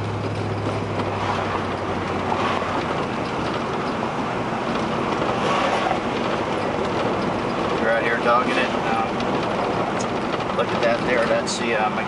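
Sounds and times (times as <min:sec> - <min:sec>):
car road and engine noise: 0:00.0 - 0:12.0
low engine hum: 0:00.0 - 0:12.0.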